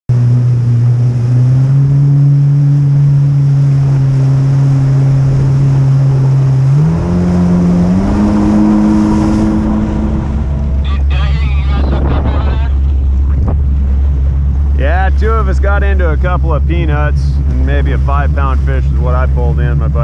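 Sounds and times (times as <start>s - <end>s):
jet ski engine running: 0.1s - 20.0s.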